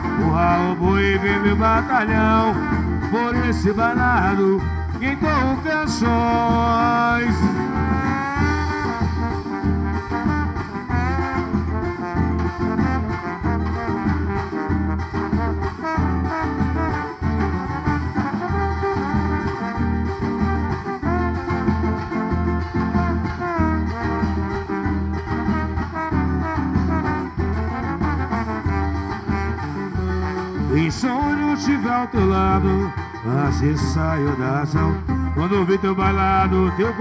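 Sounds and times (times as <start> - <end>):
band playing instrumental music: 0.0 - 37.0.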